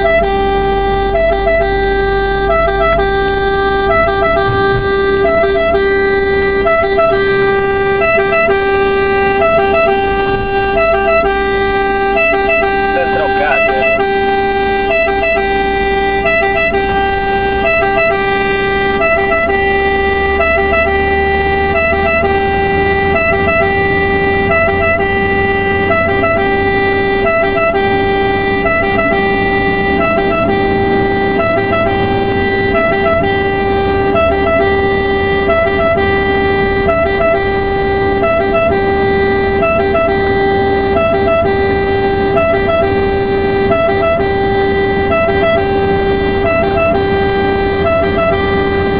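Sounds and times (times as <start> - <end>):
ambulance siren: 0.0 - 48.9
engine and road rumble: 0.0 - 48.9.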